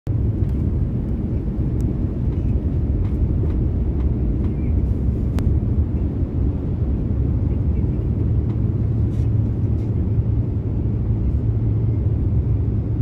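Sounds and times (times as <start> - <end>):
jet engines rumbling in cabin: 0.1 - 13.0
rushing airflow: 0.1 - 13.0.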